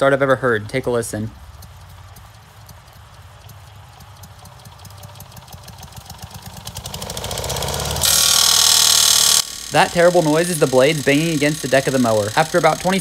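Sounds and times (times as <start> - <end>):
lawnmower engine spinning up: 1.1 - 13.0.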